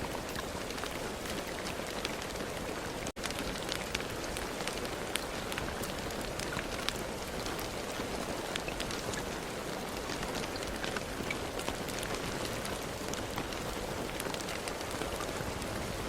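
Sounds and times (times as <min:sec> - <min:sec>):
raindrops ticking on a surface: 0:00.0 - 0:16.0
steady rain hiss: 0:00.0 - 0:16.0.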